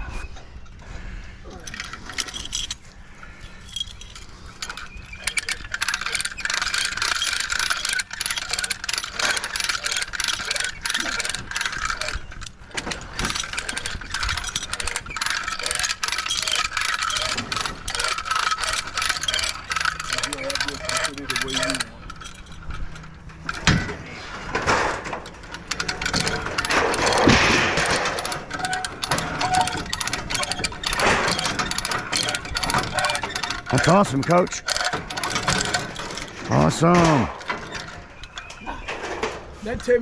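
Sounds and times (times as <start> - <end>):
metal scrap rattling: 1.5 - 40.0.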